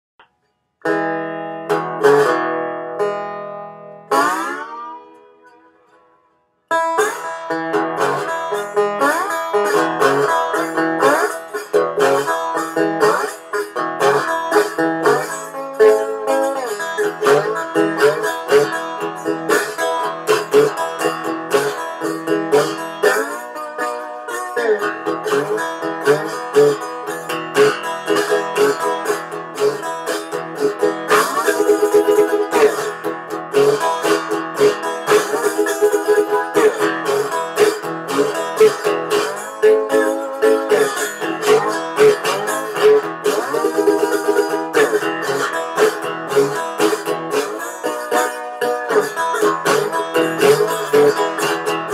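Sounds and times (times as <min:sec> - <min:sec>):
resonator guitar with slides: 0:00.2 - 0:51.9.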